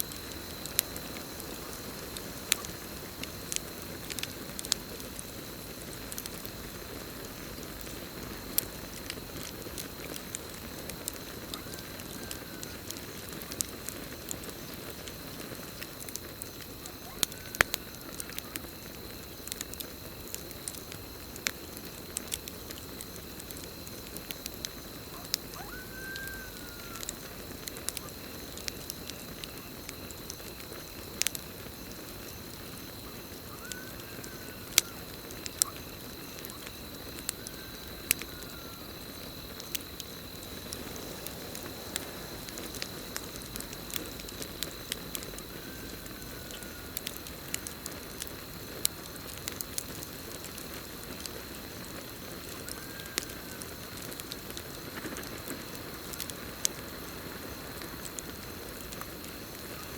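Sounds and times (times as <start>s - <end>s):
campfire crackling and popping: 0.0s - 59.9s
high insect trill: 0.0s - 59.9s.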